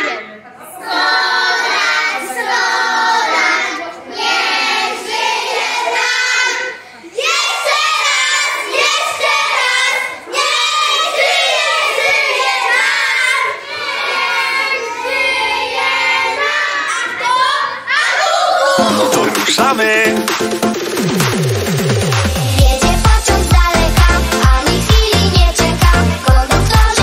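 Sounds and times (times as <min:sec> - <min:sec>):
young children singing: 0:00.0 - 0:19.6, 0:22.6 - 0:27.0.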